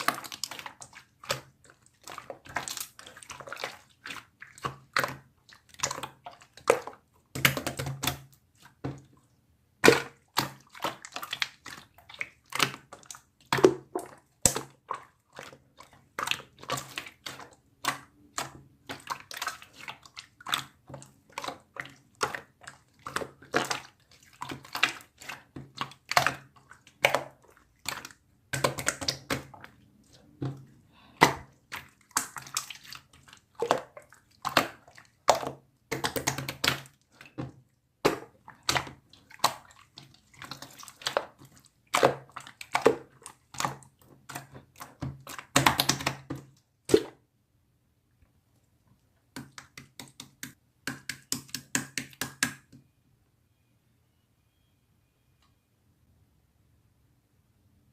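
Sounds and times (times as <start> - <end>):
slime squelching: 0.0 - 47.4, 48.5 - 52.7.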